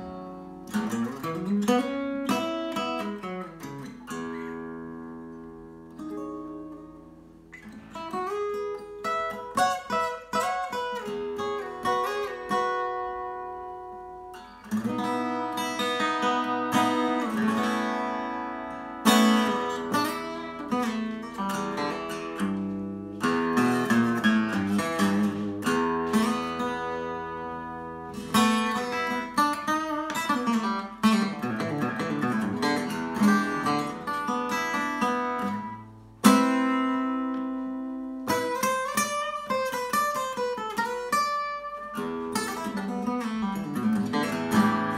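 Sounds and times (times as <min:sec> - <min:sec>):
fingerstyle acoustic blues guitar: 0:00.0 - 0:44.9.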